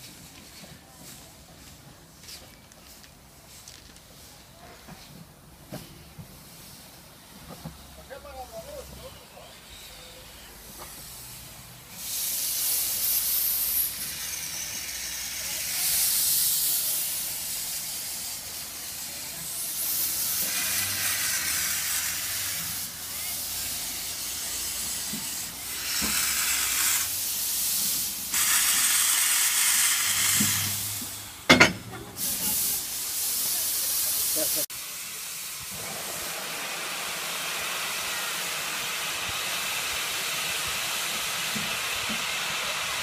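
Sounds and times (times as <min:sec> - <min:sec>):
steam hissing from locomotive: 0:00.0 - 0:43.0.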